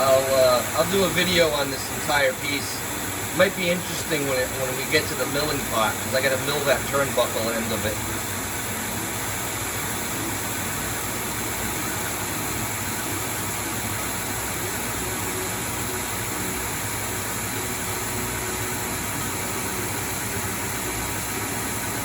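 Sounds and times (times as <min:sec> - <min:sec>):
lathe cutting steel: 0:00.0 - 0:22.0.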